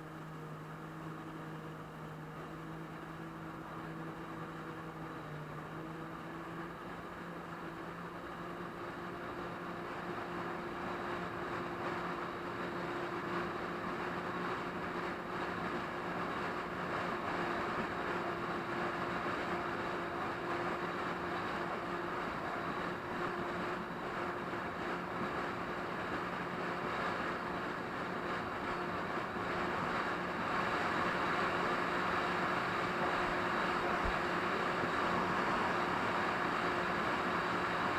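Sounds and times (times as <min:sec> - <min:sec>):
jet ski engine running: 0:00.0 - 0:37.9.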